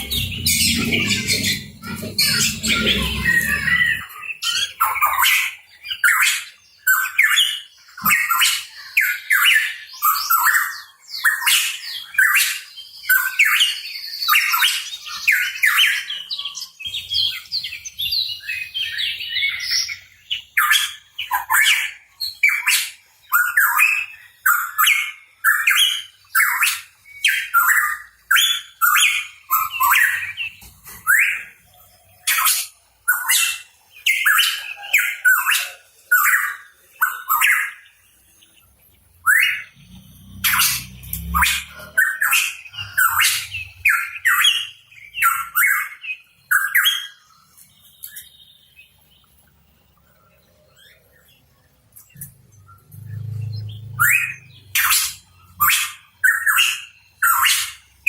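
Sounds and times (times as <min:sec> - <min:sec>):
bird chirping and squawking: 0:00.0 - 0:38.5, 0:39.2 - 0:47.4, 0:52.2 - 0:58.0.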